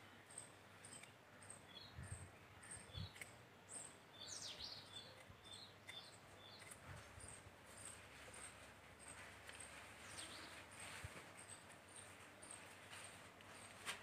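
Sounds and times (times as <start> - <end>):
bird chirping: 0.0 - 13.8.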